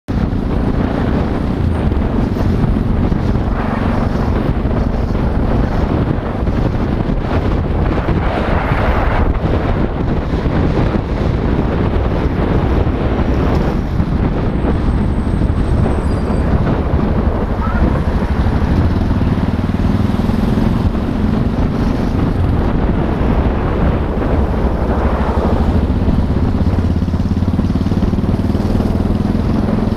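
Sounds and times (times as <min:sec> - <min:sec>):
motorcycle engine: 0:00.1 - 0:29.9
road noise: 0:00.1 - 0:29.9
wind rushing over microphone: 0:00.1 - 0:29.9.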